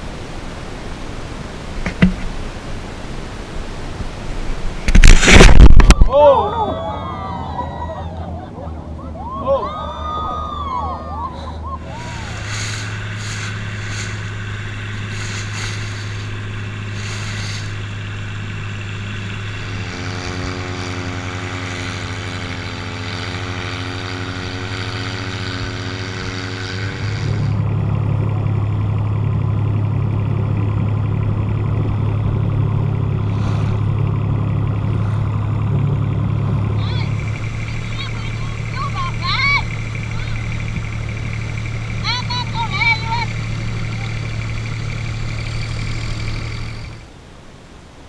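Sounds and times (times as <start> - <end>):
boat engine humming: 0.0 - 48.0
second engine tone: 4.9 - 47.1.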